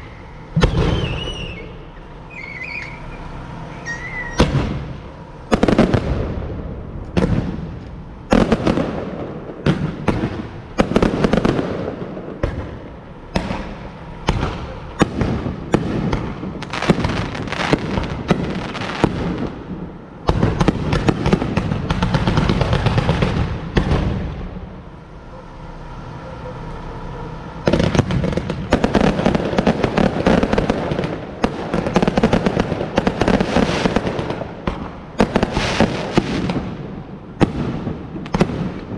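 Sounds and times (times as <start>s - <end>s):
fireworks bangs: 0.0s - 1.8s, 3.9s - 25.1s, 27.6s - 38.9s
fireworks crackling: 0.0s - 26.0s, 26.6s - 38.9s.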